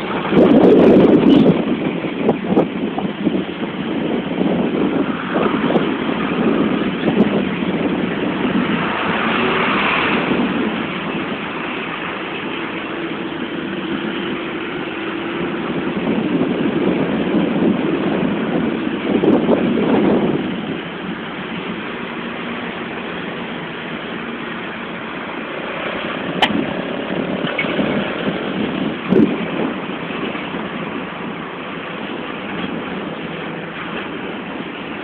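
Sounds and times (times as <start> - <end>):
road noise: 0.0 - 35.0
vehicle engine running: 0.0 - 35.0.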